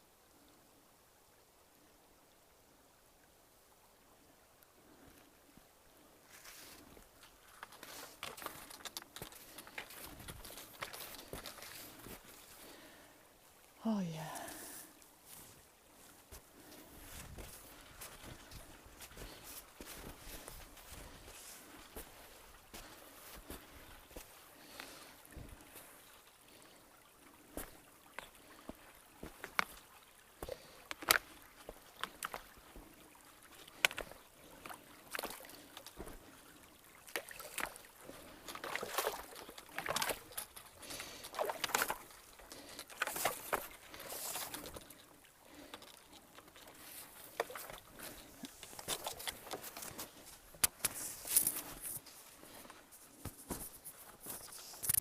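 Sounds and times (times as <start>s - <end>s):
stream water trickling and splashing: 0.0s - 55.0s.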